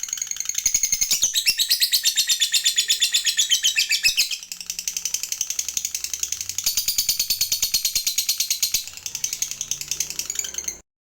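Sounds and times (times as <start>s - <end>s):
lovebird rattling trill: 0.0s - 10.8s.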